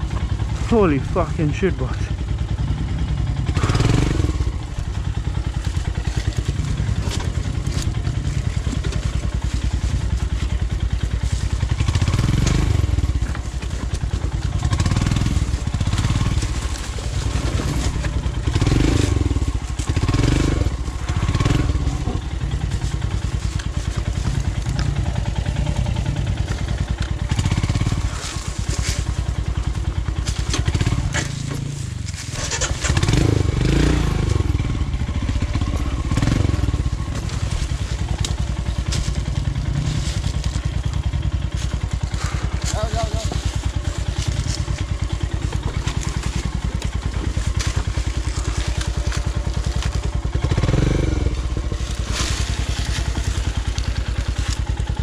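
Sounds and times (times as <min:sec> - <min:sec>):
motorcycle engine revving: 0:00.0 - 0:55.0
motorcycle knocking and clattering: 0:00.0 - 0:55.0.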